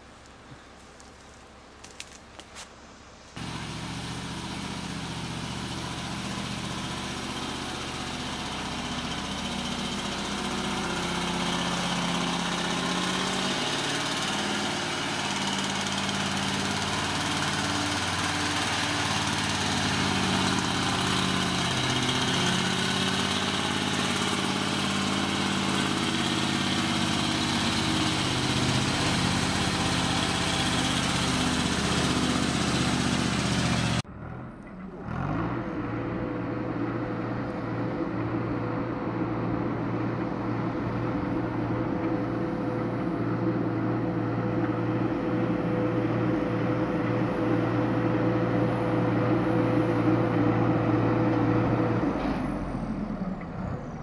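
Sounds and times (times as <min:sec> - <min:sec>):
truck diesel engine working hard: 0:03.4 - 0:54.0.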